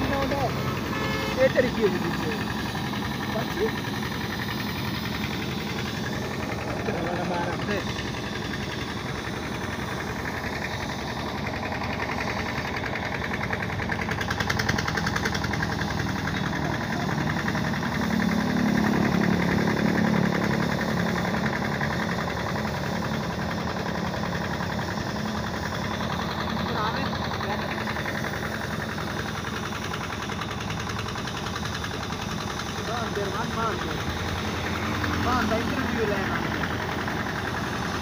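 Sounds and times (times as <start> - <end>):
engine running with knocking pulse: 0.0 - 38.0.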